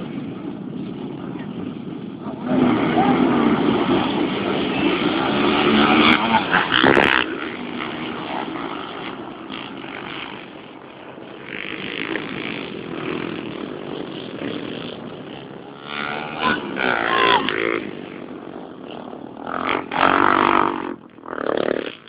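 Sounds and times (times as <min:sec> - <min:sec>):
racing motorcycle engines: 0:00.0 - 0:22.0.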